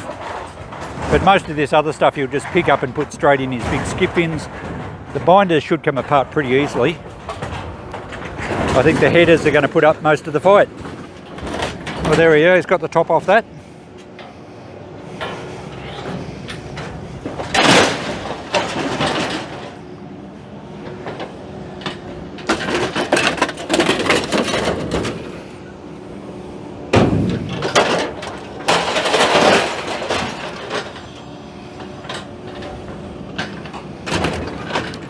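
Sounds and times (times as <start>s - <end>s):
crashing crunching metal: 0.0s - 14.4s, 15.0s - 35.0s
excavator engine: 0.0s - 35.0s.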